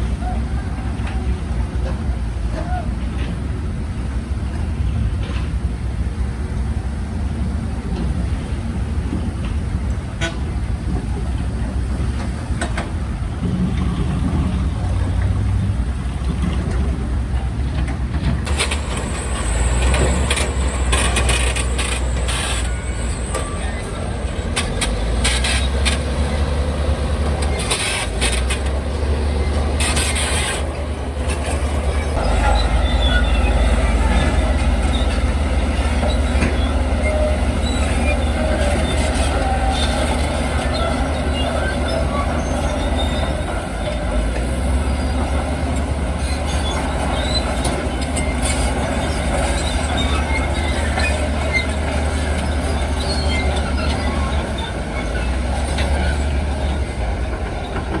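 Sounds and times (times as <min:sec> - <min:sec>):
diesel engines of heavy machines: 0:00.0 - 0:58.0.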